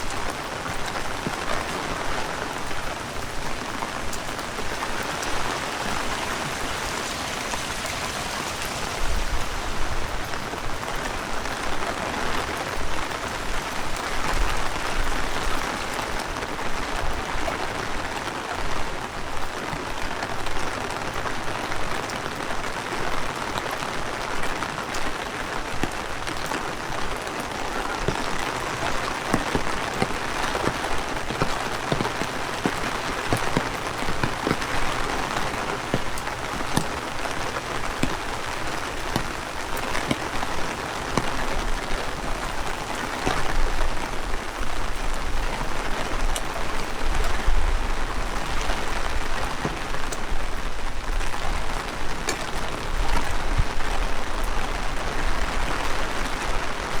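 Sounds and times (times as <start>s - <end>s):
heavy rain: 0.0s - 57.0s
raindrops ticking close by: 0.0s - 57.0s.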